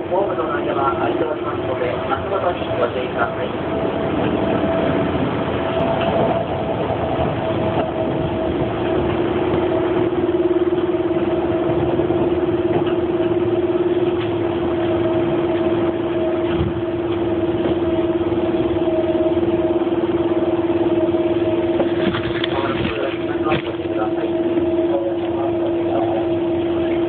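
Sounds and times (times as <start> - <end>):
train carriage rumble: 0.0 - 27.0.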